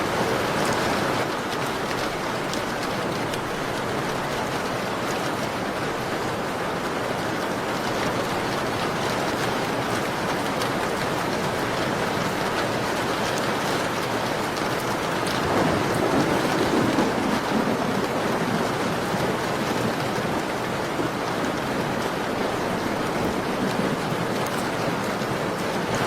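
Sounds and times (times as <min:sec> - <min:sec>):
rain on a window pane: 0:00.0 - 0:26.0.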